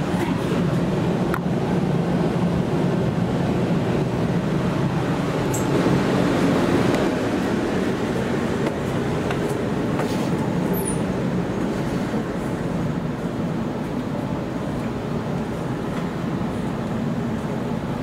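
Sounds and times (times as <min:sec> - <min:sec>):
train running low rumble: 0:00.0 - 0:18.0.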